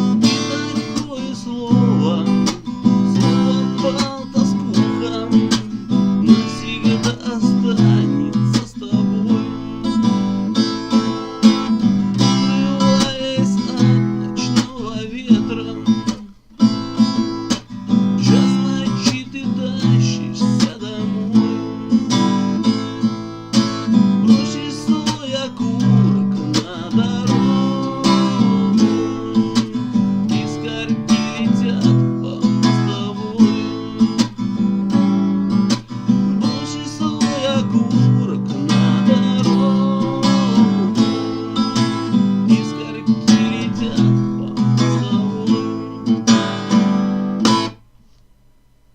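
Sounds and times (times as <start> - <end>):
acoustic guitar strumming: 0.0 - 48.2.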